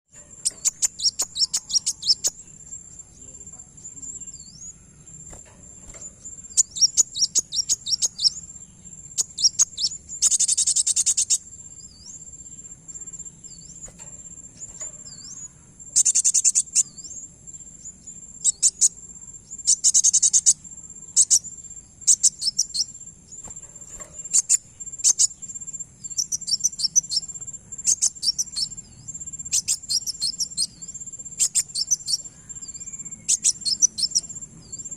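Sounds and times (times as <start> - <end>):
sunbird chirping and twittering: 0.0 - 34.9
buzzing bird trills: 0.2 - 3.2, 3.8 - 34.9
insect-like high whine: 0.2 - 34.9.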